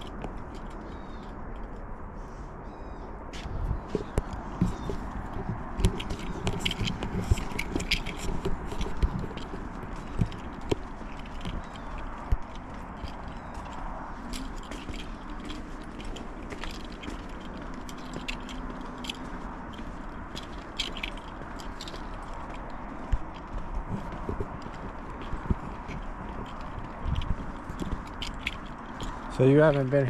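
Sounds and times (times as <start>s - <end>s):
footsteps scuffing: 3.3s - 30.0s.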